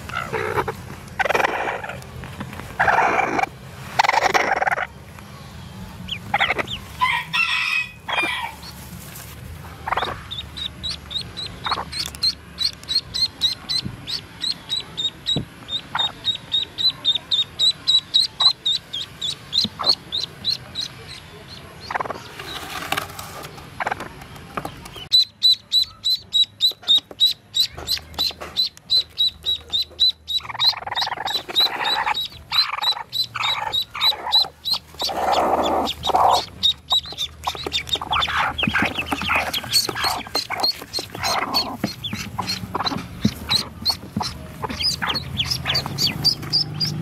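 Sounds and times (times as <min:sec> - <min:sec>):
hen clucking: 0:00.0 - 0:05.0, 0:05.9 - 0:47.0
hatchlings peeping: 0:00.0 - 0:47.0.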